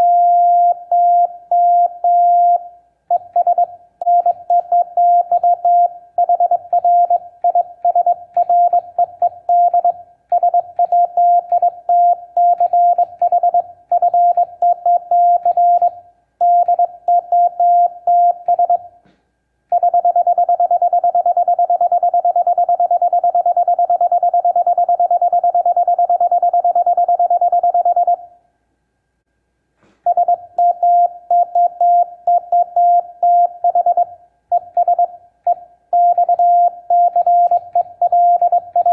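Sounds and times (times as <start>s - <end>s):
morse code beeps: 0.0s - 18.9s, 19.7s - 28.3s, 30.1s - 38.9s.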